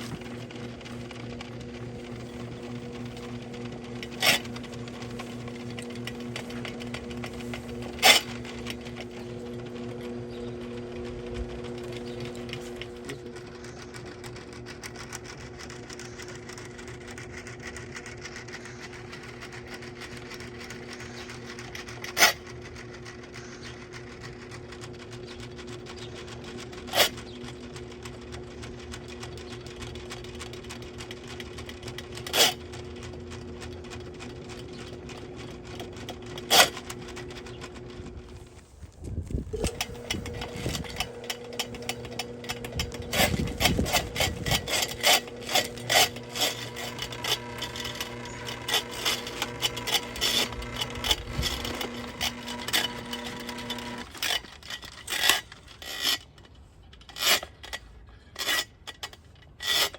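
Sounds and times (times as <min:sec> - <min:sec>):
drain auger machine running: 0:00.0 - 0:59.9.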